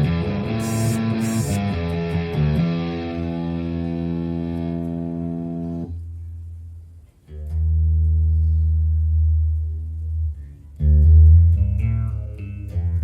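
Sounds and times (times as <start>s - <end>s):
distorted electric bass notes: 0.0s - 6.0s, 7.3s - 13.0s.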